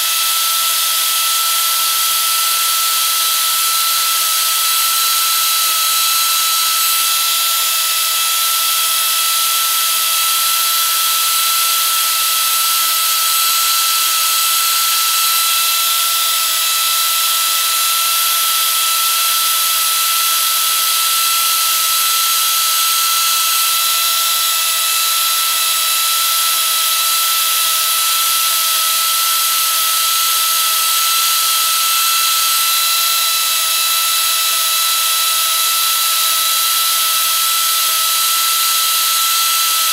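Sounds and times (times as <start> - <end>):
power carver whining: 0.0 - 39.9.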